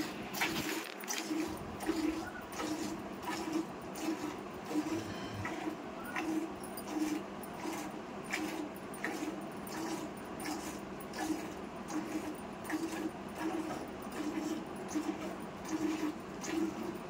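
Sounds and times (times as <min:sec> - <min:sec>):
milk squirting into steel pail: 0:00.4 - 0:16.9.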